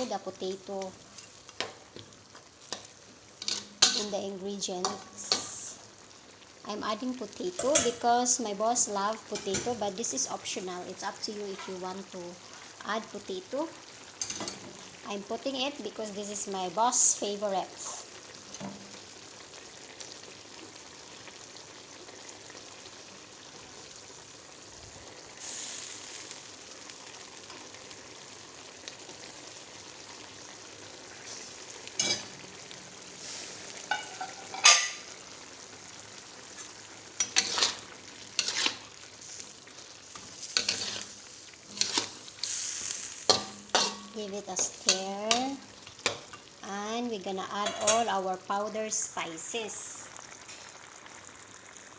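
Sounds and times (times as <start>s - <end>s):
curry sizzling in a pot: 0.0s - 51.9s.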